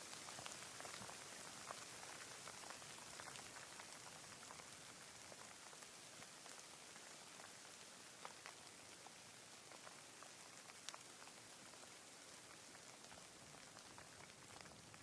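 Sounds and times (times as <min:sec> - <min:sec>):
light rain hiss: 0:00.0 - 0:15.0.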